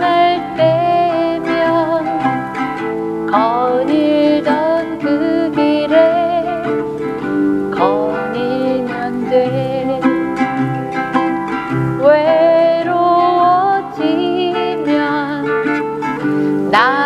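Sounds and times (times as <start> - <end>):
fingerpicked acoustic guitar: 0.0 - 17.0
woman singing: 0.0 - 17.0.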